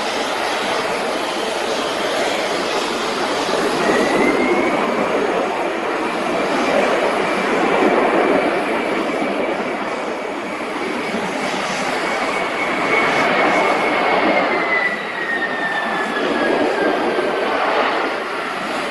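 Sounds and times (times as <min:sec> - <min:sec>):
jet engines running with high whine: 0:00.0 - 0:18.9.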